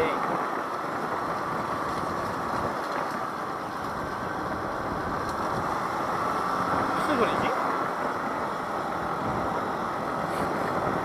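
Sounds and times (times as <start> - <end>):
road noise: 0.0 - 11.0
wind noise: 0.0 - 11.0.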